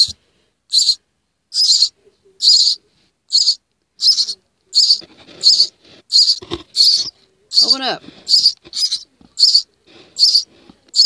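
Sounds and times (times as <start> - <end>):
nestling birds begging calls: 0.0 - 11.0.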